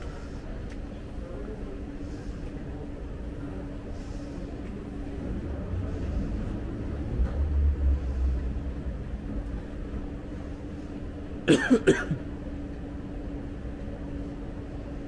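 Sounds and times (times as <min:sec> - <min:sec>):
escalator humming: 0:00.0 - 0:15.0.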